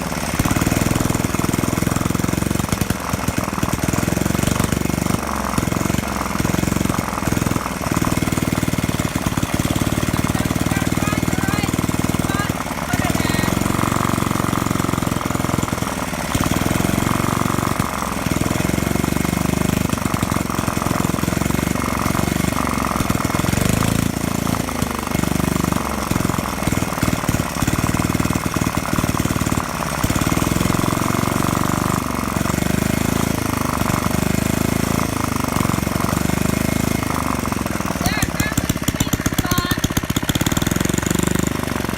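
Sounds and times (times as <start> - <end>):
gasoline engine running: 0.0 - 41.9.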